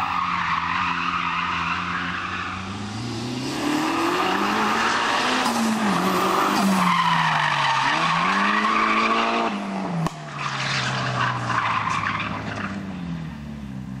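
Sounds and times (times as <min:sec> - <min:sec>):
tyres squealing and skidding: 0:00.0 - 0:13.3
car engine revving: 0:00.0 - 0:14.0.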